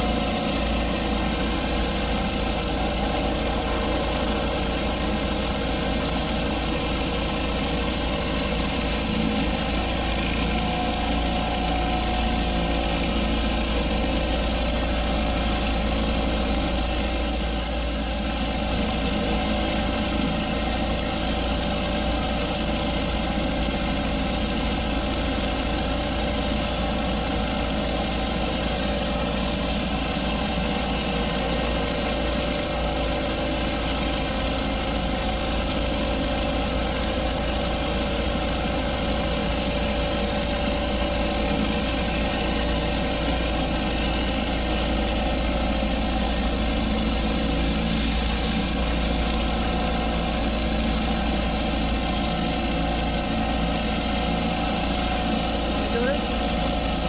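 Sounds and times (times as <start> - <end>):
pressure washer engine running: 0.0 - 57.0.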